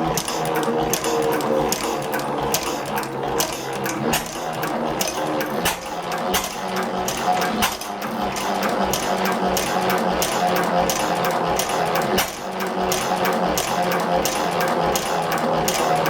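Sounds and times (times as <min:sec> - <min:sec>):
stationary engine knocking: 0:00.0 - 0:16.0
valve gear ticking: 0:00.0 - 0:16.0.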